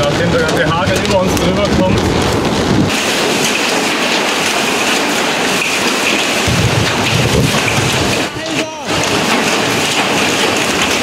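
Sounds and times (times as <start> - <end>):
hail and rain on metal roof: 0.0 - 11.0.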